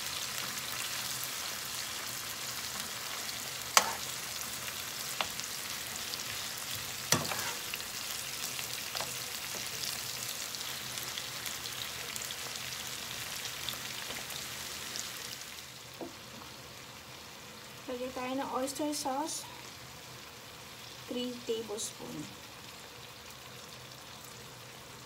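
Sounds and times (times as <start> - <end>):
ribs sizzling in a pan: 0.0 - 25.0.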